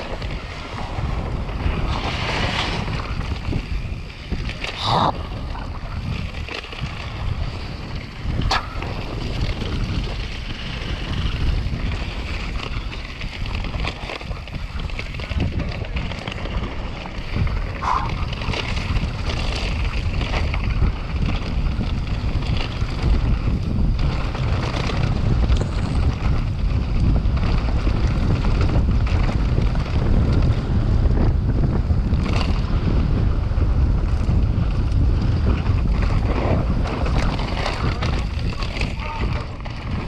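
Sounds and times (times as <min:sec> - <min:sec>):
knocks and rattles from bike: 0:00.0 - 0:40.0
wind buffeting microphone: 0:00.0 - 0:40.0.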